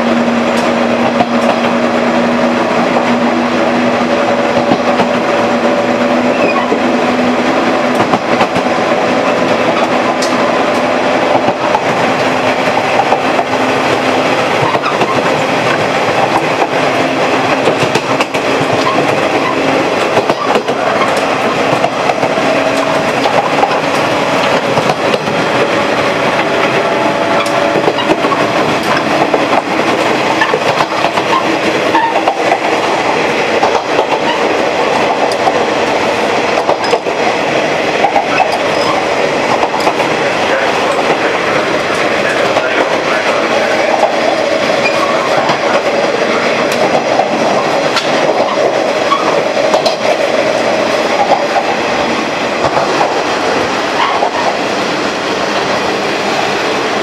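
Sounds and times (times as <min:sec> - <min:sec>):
diesel railcar engine drone: 0:00.0 - 0:57.0
wheels clicking over rail joints: 0:07.8 - 0:37.4, 0:38.0 - 0:54.6.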